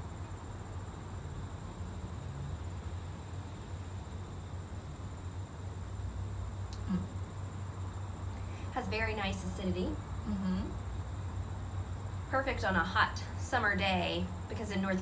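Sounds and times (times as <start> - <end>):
even hiss: 0.0 - 15.0
faint high whine: 0.0 - 15.0.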